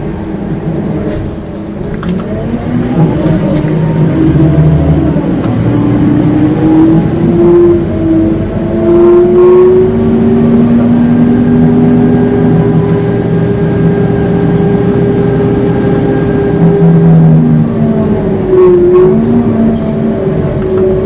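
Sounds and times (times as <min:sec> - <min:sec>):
bus engine howling: 0:00.0 - 0:21.0.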